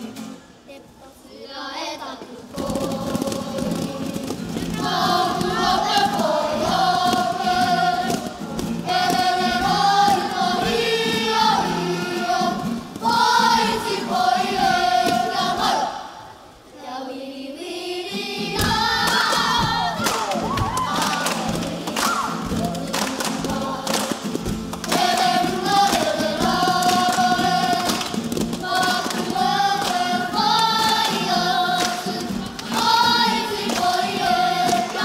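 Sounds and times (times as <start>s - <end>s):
guitar accompaniment: 0.0s - 0.8s, 2.3s - 16.0s, 18.1s - 35.0s
children singing together: 1.0s - 35.0s.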